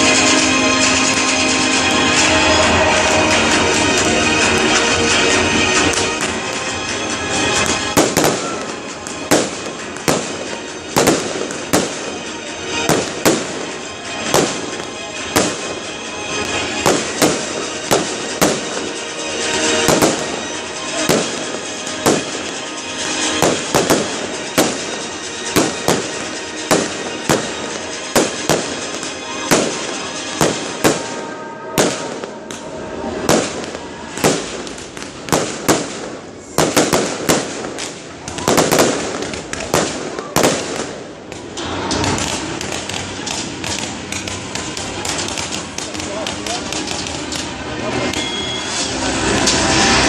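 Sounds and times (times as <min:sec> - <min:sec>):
fireworks bursting with loud bangs: 0:00.0 - 0:50.0
music playing: 0:00.0 - 0:50.0.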